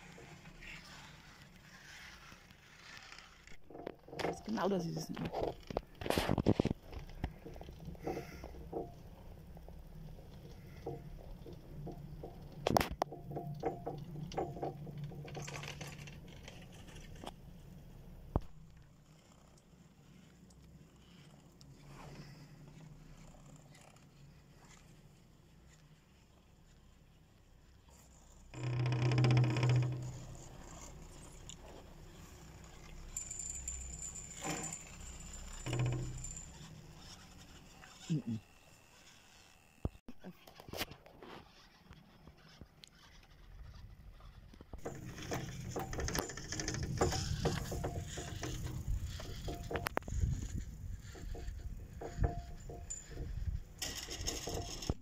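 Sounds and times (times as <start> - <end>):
chairlift rope rumbling and clicking: 0.0 - 55.0.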